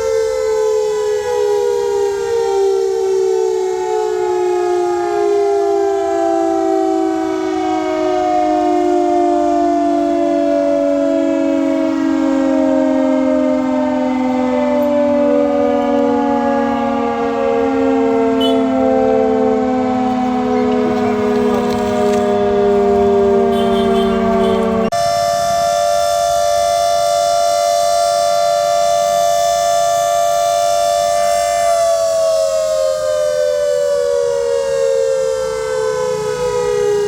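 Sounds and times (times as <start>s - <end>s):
siren wailing: 0.0s - 37.0s.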